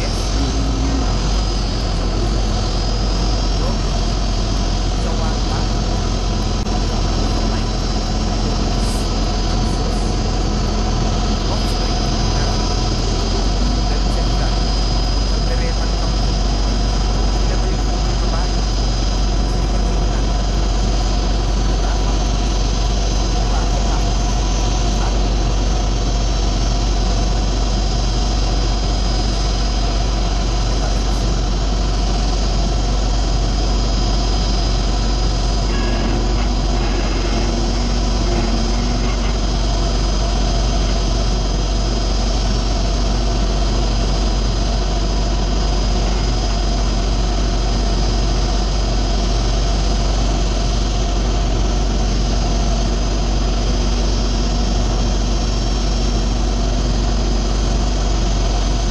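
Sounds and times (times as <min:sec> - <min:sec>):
tug engine idling drone: 0:00.0 - 0:58.9.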